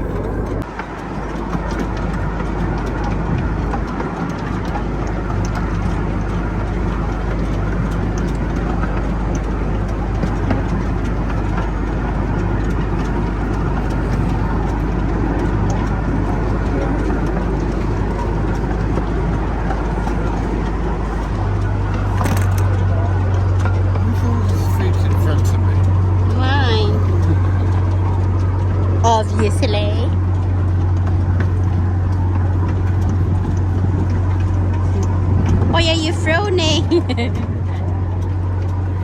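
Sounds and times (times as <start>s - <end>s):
low engine hum: 0.0s - 39.0s
train rolling rumble: 0.0s - 39.0s.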